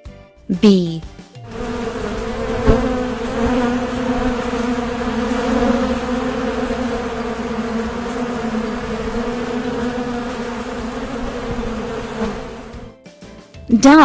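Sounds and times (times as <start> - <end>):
bees buzzing: 1.5 - 12.9.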